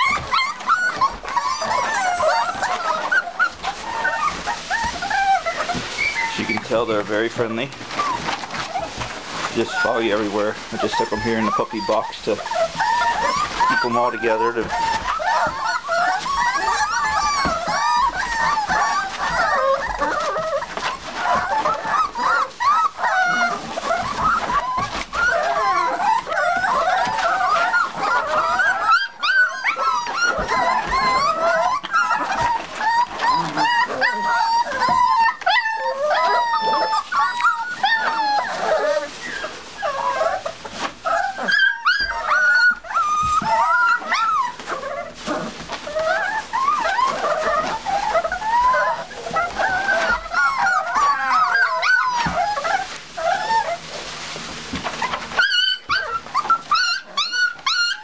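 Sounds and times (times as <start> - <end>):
puppies whining and whimpering: 0.0 - 58.0.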